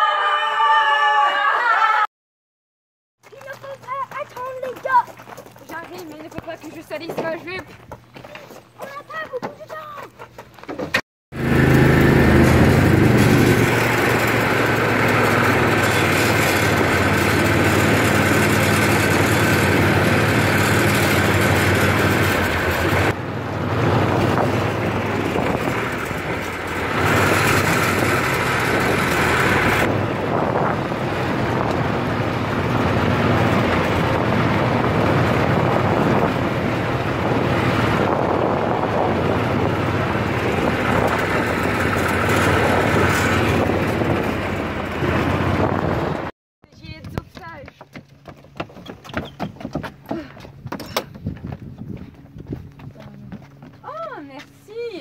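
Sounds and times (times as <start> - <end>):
vehicle engine running: 3.2 - 10.0, 11.3 - 55.0
road and wind noise: 3.2 - 55.0.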